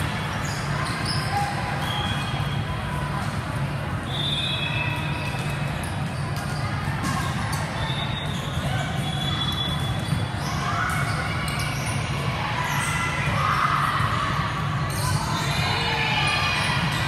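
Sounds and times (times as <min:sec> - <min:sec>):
chatter of people: 0:00.0 - 0:17.0.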